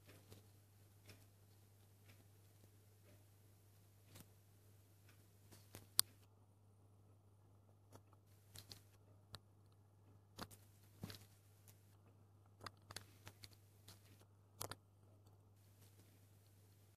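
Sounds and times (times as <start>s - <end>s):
faint irregular clicks: 0.0s - 16.9s
faint low hum: 0.0s - 16.9s.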